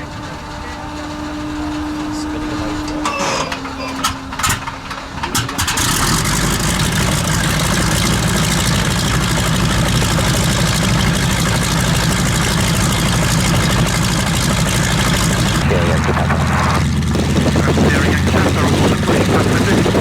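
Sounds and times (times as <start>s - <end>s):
radial engine idling: 0.0s - 20.0s
starter whine: 0.0s - 20.0s.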